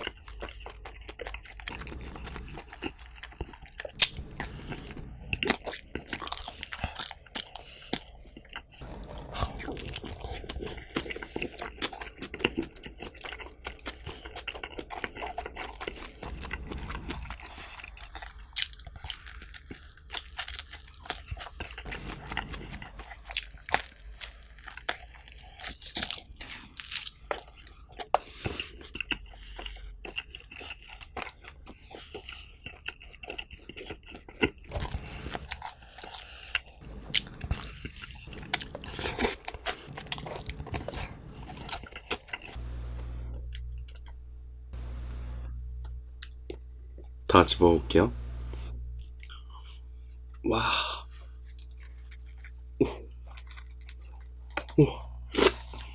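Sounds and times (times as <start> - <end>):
chewing and biting pizza: 0.0 - 45.2, 46.2 - 55.9.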